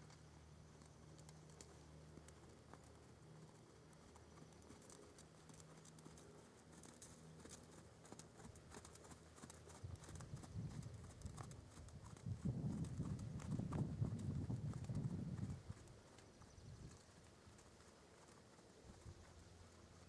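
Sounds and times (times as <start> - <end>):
hoofbeats on sand: 2.4 - 20.0.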